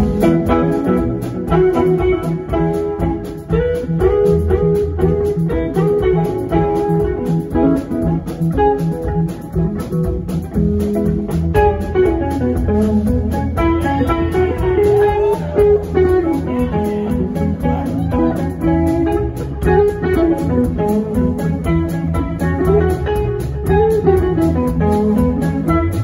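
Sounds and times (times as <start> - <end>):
bending guitar line: 0.0 - 26.0
rock band playing: 0.0 - 26.0.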